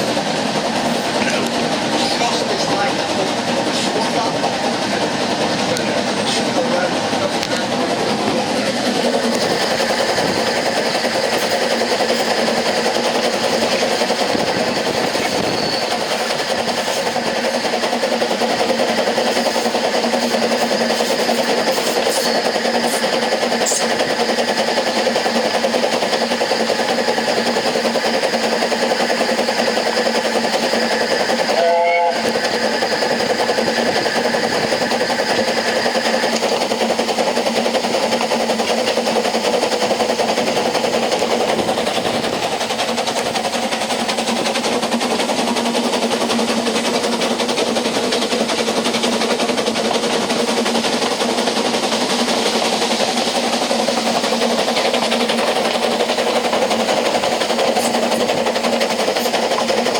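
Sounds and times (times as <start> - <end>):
train wheels rattling on rails: 0.0 - 59.9.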